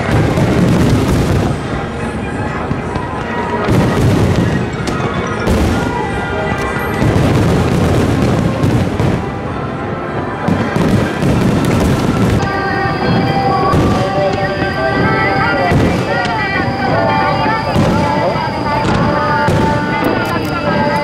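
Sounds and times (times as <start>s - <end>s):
firework shells booming: 0.0s - 1.9s, 2.6s - 9.5s, 10.2s - 21.0s.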